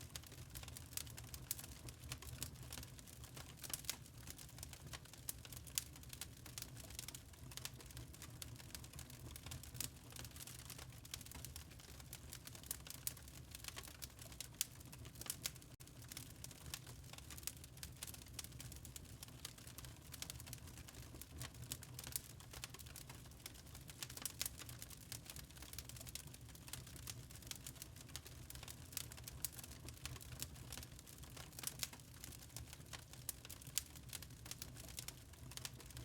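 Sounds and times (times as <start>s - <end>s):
log fire crackling: 0.0s - 36.0s.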